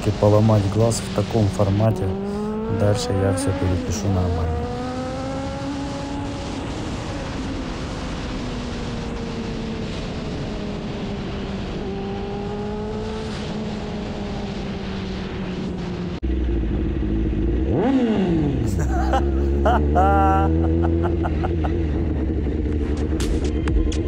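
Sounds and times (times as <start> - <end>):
motorcycle engine cruising: 0.0 - 24.0.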